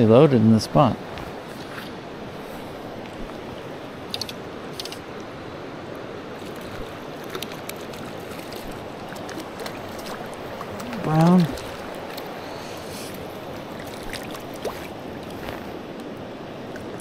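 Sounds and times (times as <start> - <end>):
river flowing over rocks: 1.0 - 17.0.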